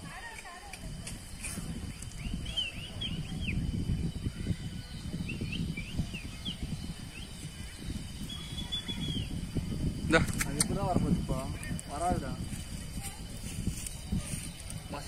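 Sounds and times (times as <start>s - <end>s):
low rumbling noise: 0.9s - 15.0s
bird chirping: 1.1s - 15.0s.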